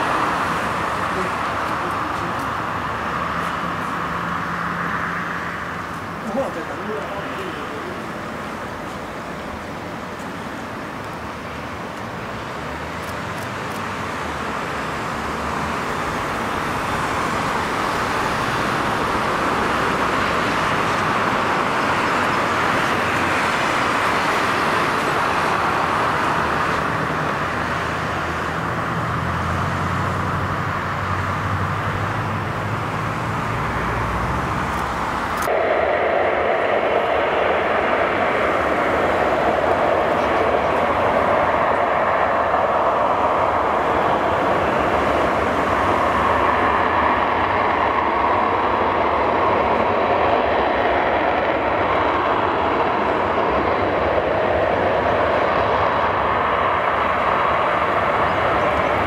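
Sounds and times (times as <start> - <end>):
jet engine noise: 0.0 - 59.0.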